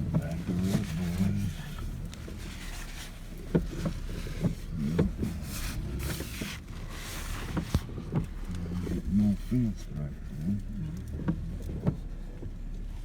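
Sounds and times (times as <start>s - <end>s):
vehicle engine running low: 0.0s - 13.0s.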